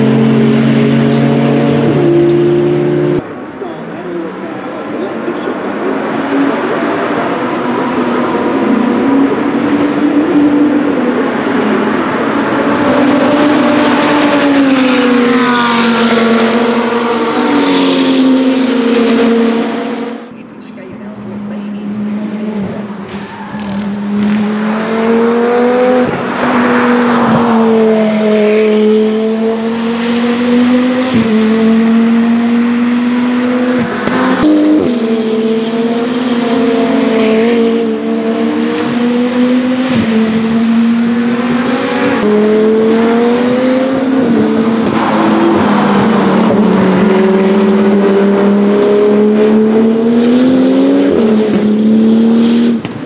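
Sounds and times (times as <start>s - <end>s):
race car engines running hard: 0.0s - 53.0s.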